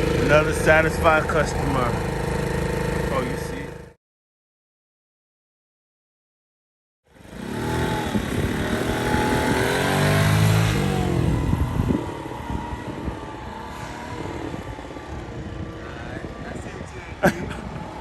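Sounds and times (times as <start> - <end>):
scooter engine revving: 0.0 - 4.0, 7.1 - 18.0.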